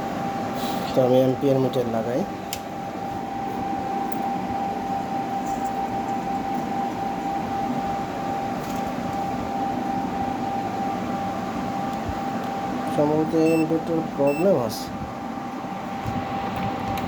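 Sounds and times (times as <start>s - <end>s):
inverter whining: 0.0s - 17.0s.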